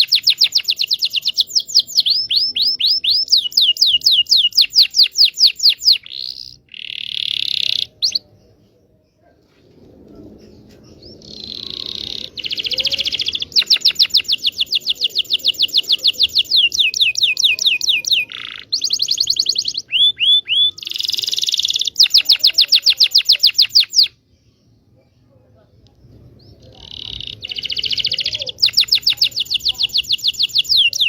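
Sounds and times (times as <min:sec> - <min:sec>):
canary singing trills: 0:00.0 - 0:08.6, 0:11.0 - 0:24.2, 0:26.4 - 0:31.0.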